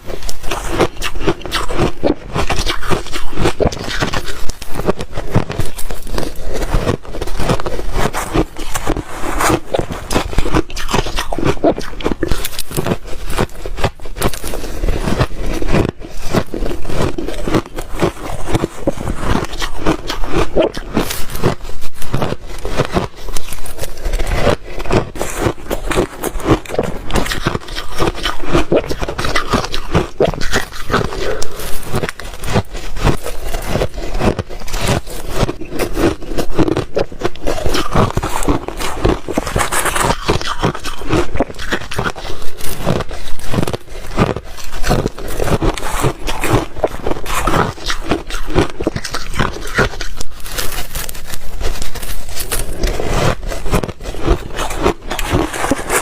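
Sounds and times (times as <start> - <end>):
person crunching ice with teeth: 0.0 - 56.0.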